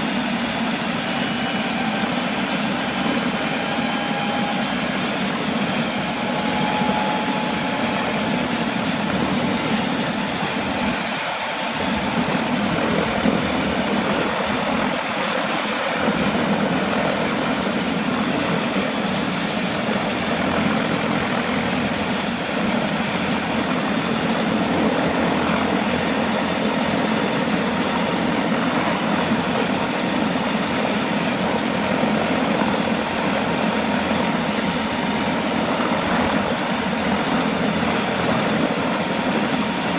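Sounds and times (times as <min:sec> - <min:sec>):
helicopter turbine engine running: 0:00.0 - 0:39.9.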